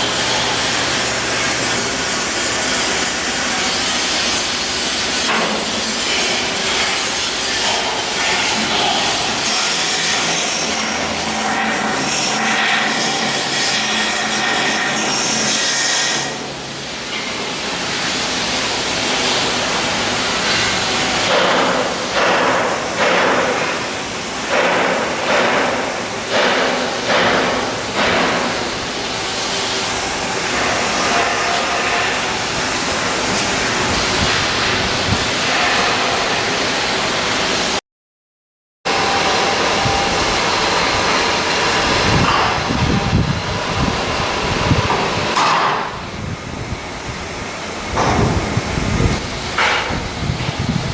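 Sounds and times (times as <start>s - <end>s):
steady machine noise: 0.0s - 37.8s, 38.9s - 50.9s.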